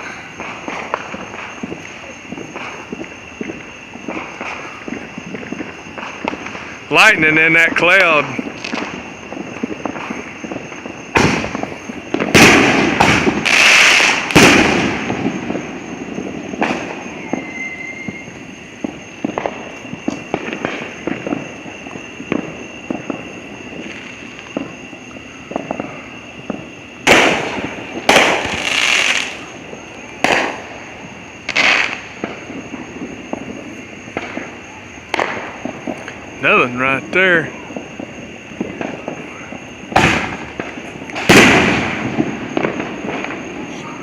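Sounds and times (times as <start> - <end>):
fireworks loud bangs: 0.0 - 44.0
fireworks pops and crackles: 0.0 - 44.0.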